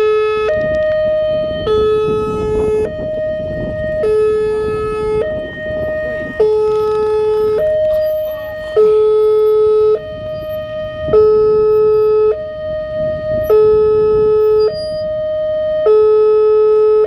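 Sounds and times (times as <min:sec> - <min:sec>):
electronic two-tone crossing alarm: 0:00.0 - 0:17.0.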